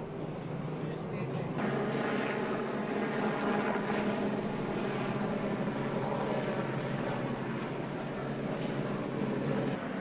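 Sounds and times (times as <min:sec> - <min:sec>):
steady engine drone: 0:00.0 - 0:10.0.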